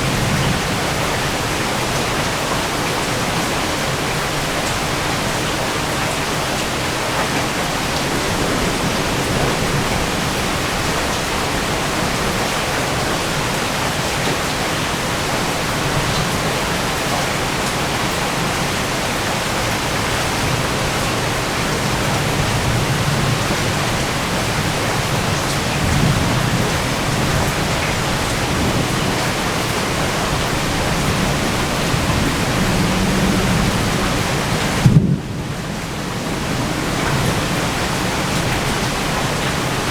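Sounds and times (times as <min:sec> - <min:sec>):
heavy rain pouring: 0:00.0 - 0:39.9
thunder rumbling: 0:06.8 - 0:39.9.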